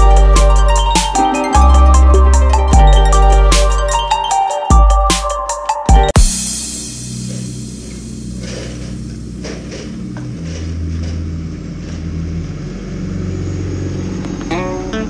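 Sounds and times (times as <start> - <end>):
truck engine running: 0.0 - 4.2, 6.3 - 15.0.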